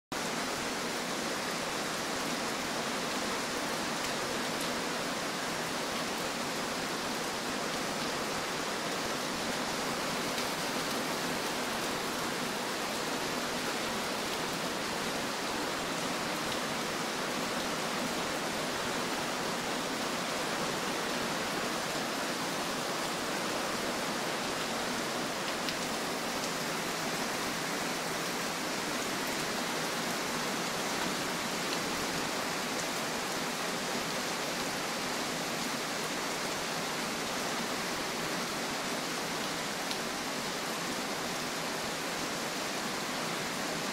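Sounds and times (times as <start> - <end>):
heavy rain on pavement: 0.1 - 43.9.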